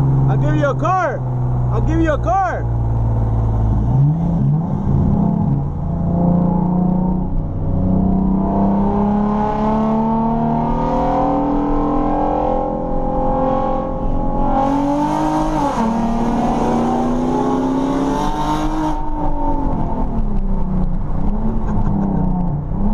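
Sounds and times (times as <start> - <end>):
cars racing at full throttle: 0.0 - 22.9.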